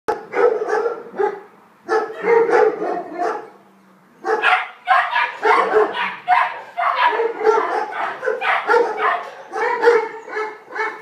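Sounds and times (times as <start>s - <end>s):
puppy barking: 0.1s - 3.5s, 4.2s - 11.0s.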